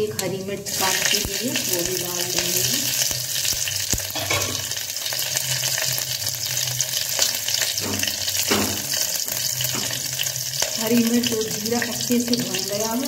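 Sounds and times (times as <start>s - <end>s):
seeds sizzling in hot oil: 0.2s - 13.0s.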